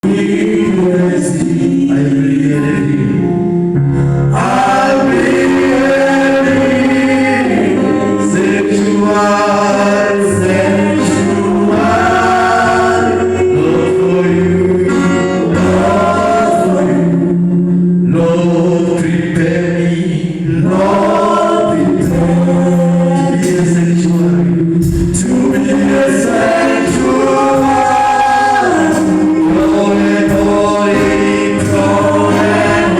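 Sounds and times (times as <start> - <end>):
gospel choir singing with music: 0.0 - 32.9.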